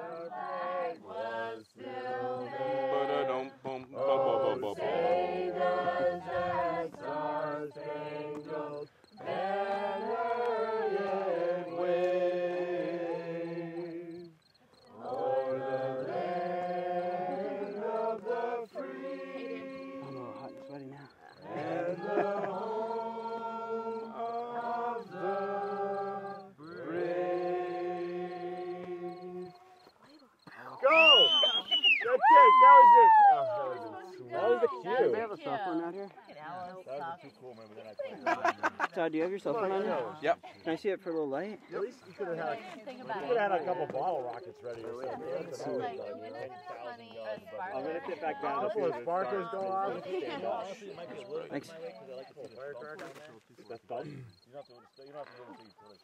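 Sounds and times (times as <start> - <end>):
voices singing slow song: 0.0 - 56.0.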